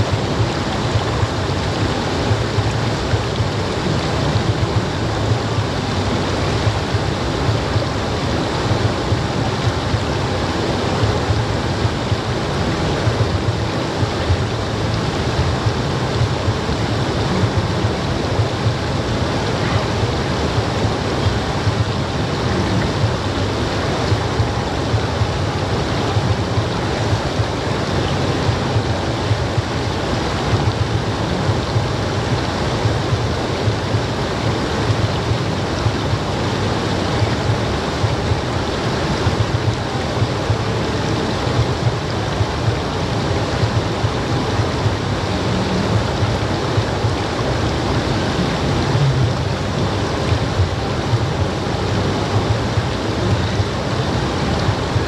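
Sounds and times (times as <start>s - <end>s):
river rapids rushing over rocks: 0.0s - 55.0s.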